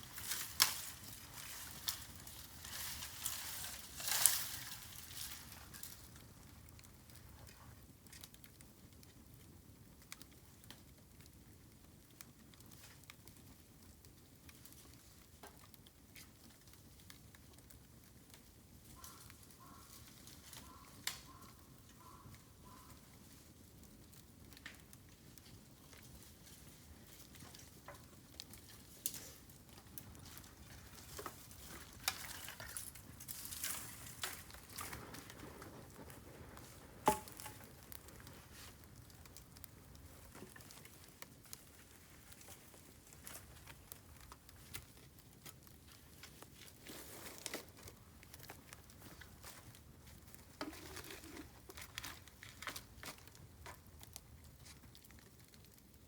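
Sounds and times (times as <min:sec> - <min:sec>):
bamboo fire crackling: 0:00.0 - 0:56.0.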